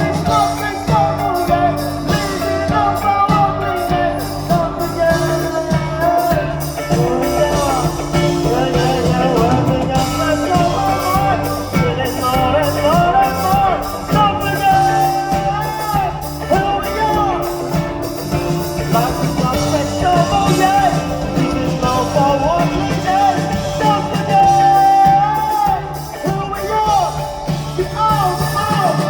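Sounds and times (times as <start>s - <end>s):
rock band playing: 0.0s - 29.0s
steady drum beat: 0.0s - 29.0s.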